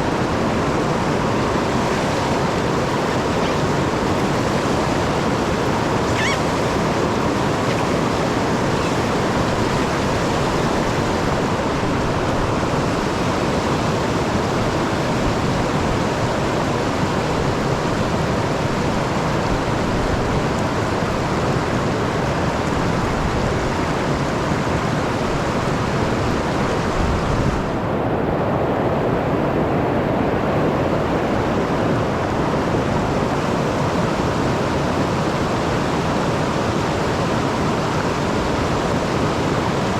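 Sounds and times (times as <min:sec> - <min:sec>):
river water rushing: 0:00.0 - 0:28.0, 0:30.8 - 0:39.9.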